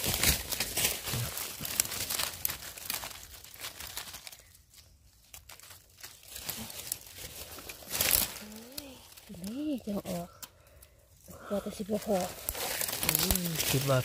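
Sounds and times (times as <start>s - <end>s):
dry leaves crackling and rustling: 0.0s - 14.0s.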